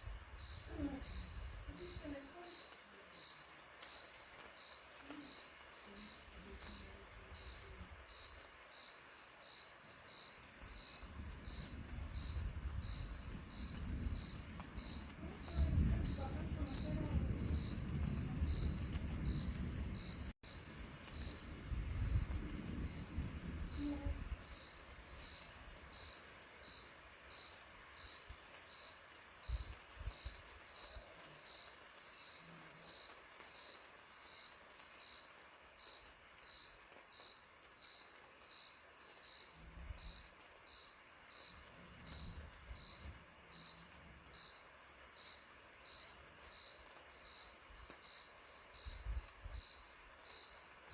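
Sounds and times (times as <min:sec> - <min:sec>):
cricket chirping: 0:00.4 - 0:50.9.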